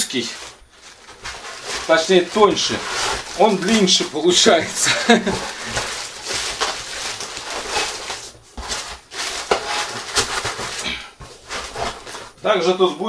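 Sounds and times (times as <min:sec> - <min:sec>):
packaging rustling and crackling: 0:00.0 - 0:12.8.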